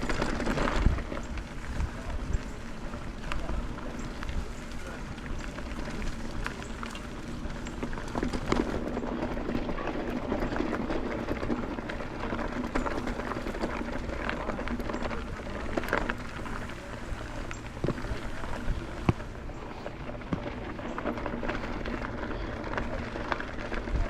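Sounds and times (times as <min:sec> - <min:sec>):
bike clicking and rattling: 0:00.0 - 0:24.0
tyre and wind noise: 0:00.0 - 0:24.0.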